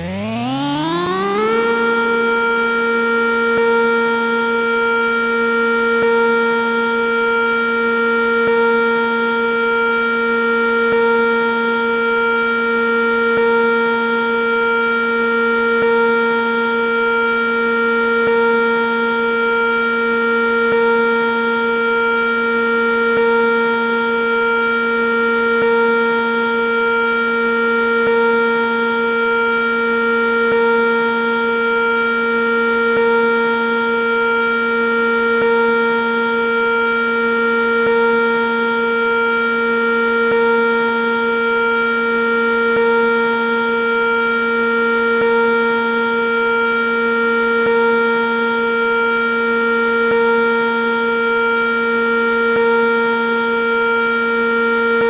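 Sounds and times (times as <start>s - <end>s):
warning siren steady tone: 0.0s - 55.0s.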